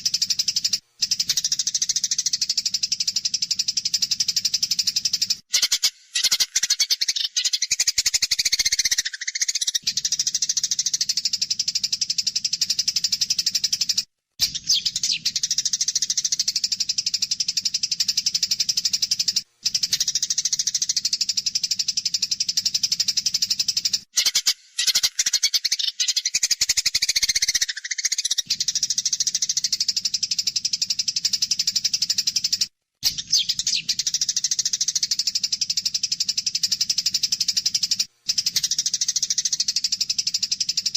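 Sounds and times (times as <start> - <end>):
sparrows chirping harshly: 0.0 - 40.9.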